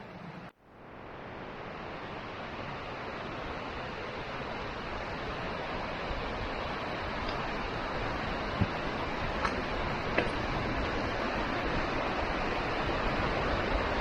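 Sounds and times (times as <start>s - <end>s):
waterfall rushing: 0.9s - 14.0s.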